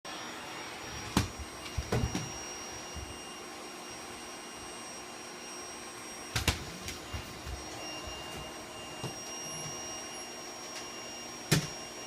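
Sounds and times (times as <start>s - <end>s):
vacuum cleaner running: 0.1s - 12.0s.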